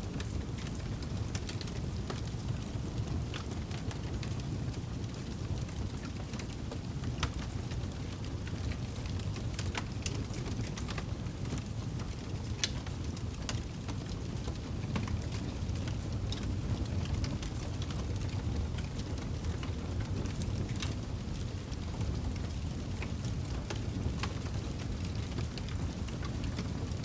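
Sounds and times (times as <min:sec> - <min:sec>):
campfire flames rumbling: 0:00.0 - 0:27.0
wood crackling and popping: 0:00.0 - 0:27.0.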